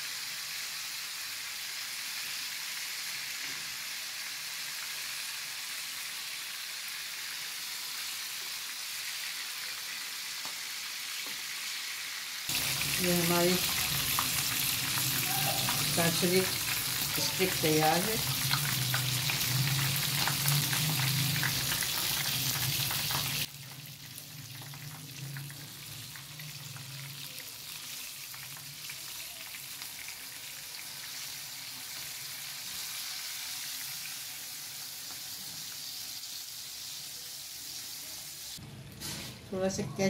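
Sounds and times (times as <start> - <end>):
meat sizzling in hot oil: 0.0 - 39.3.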